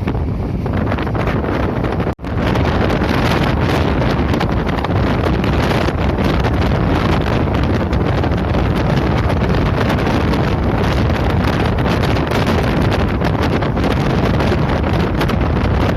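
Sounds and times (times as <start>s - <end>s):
passenger train running: 0.0s - 15.9s
wind buffeting microphone: 0.0s - 15.9s.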